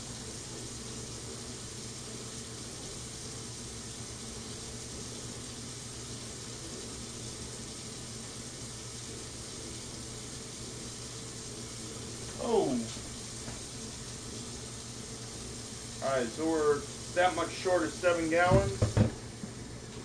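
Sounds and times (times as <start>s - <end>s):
water pouring into metal tank: 0.9s - 19.4s.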